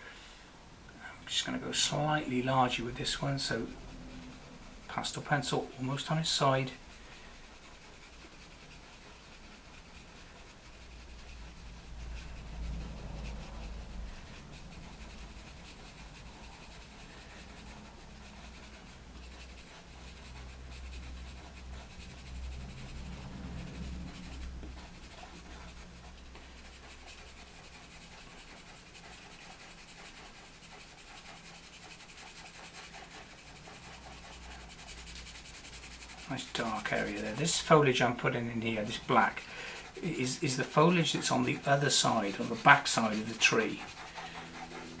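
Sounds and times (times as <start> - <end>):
pastel pencil scratching on paper: 1.3 - 45.0.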